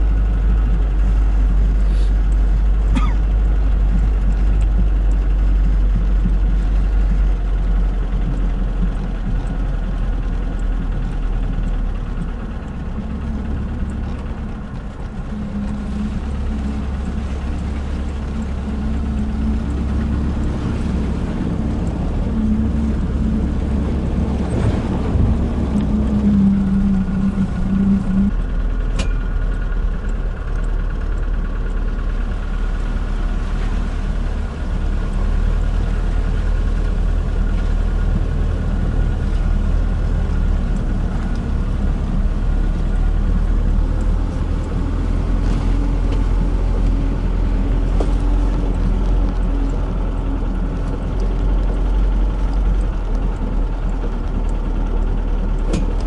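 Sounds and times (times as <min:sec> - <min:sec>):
van engine driving through mud: 0:00.0 - 0:56.0.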